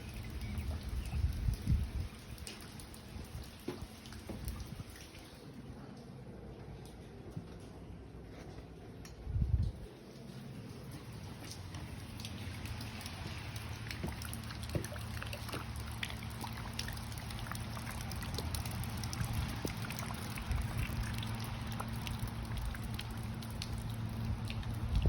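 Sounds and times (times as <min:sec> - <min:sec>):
drops ticking and dripping: 0:00.0 - 0:07.8, 0:09.0 - 0:25.0
low steady rumble: 0:00.0 - 0:25.0.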